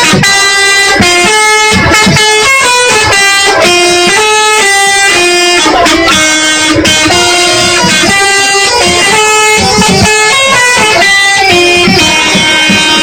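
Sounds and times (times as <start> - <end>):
multi-tone musical bus horn: 0.0 - 13.0.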